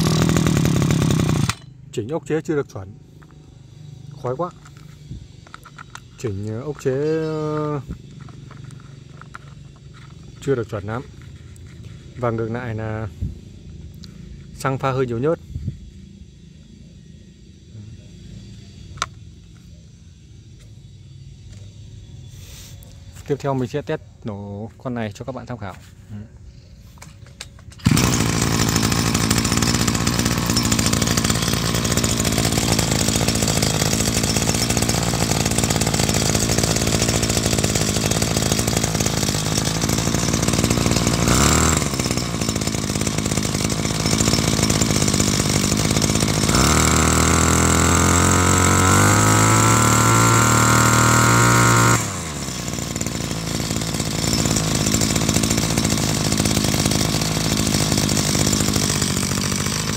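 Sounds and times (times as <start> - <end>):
brush cutter engine running: 0.0 - 15.1, 27.0 - 59.9.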